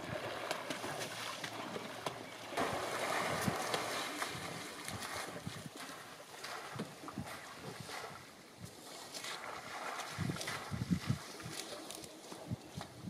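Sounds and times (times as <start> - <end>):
drips and small splashes: 0.0 - 13.0
grass swished through water: 0.0 - 13.0.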